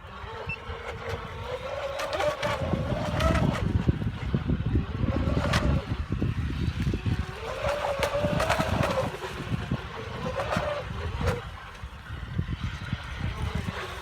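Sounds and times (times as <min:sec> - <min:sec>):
faint electric motor whine: 0:00.0 - 0:14.0
wind buffeting microphone: 0:00.0 - 0:14.0.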